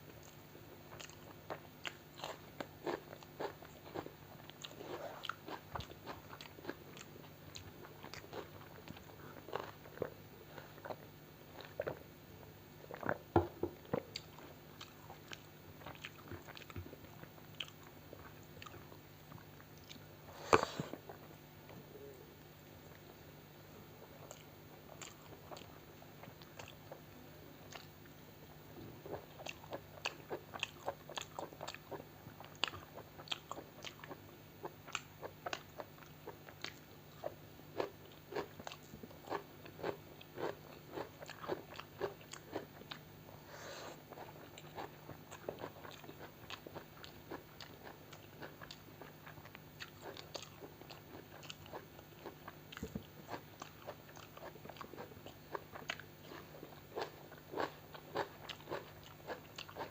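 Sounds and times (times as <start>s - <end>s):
chewing and crunching food: 0.0s - 23.2s, 23.8s - 59.9s.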